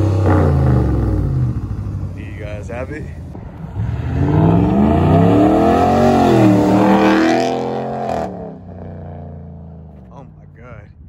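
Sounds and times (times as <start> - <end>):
truck exhaust accelerating: 0.0 - 10.2.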